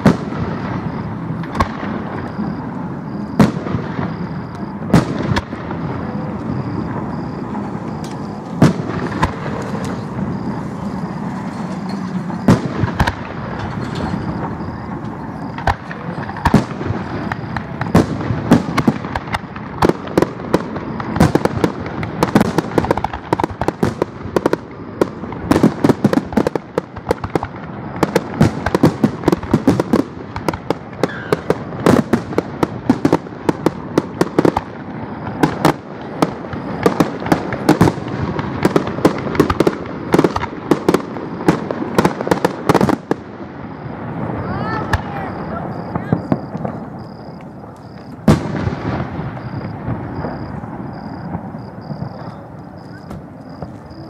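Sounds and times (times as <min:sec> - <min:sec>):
fireworks bangs: 0:00.0 - 0:54.0.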